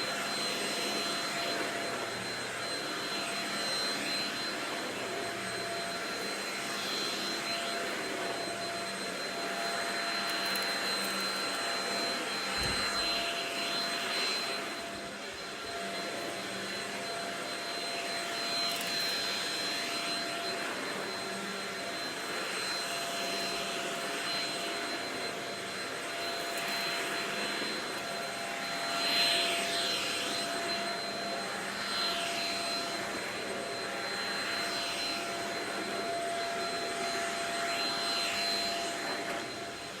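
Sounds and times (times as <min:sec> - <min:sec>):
vacuum cleaner motor whine: 0:00.0 - 0:40.0.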